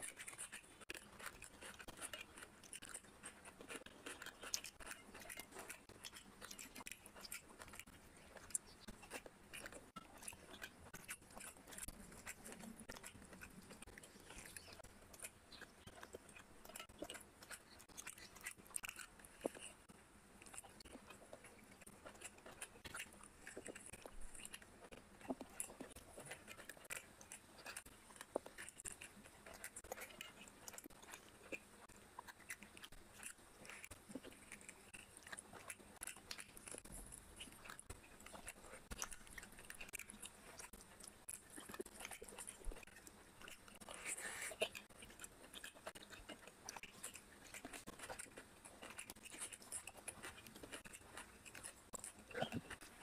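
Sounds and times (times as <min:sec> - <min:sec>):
fingers squishing rice: 0:00.0 - 0:53.0
person chewing with mouth clicks: 0:00.0 - 0:53.0.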